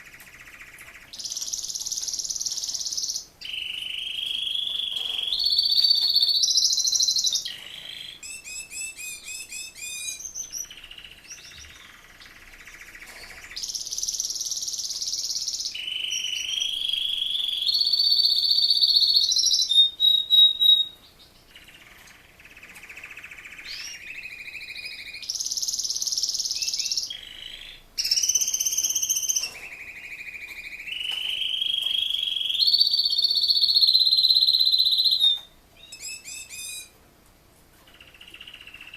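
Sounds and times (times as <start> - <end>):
canary singing trills: 0.0 - 37.0, 37.8 - 38.9.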